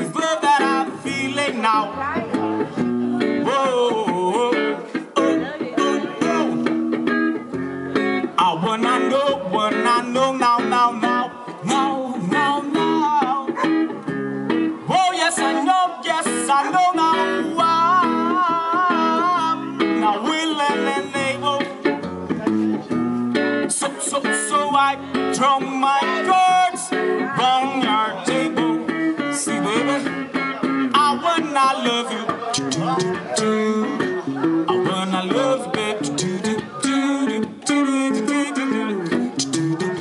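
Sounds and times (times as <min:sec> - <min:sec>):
guitar-led instrumental music: 0:00.0 - 0:40.0.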